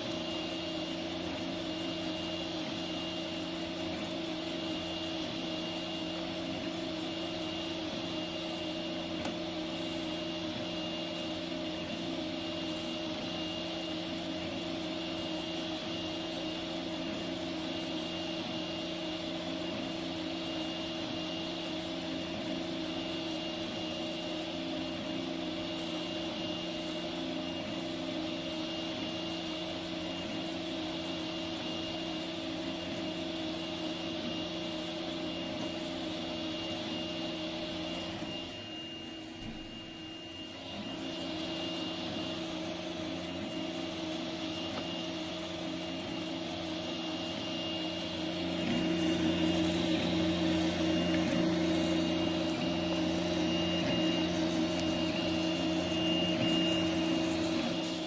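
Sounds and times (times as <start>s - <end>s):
printer motors and fans humming: 0.0s - 58.0s.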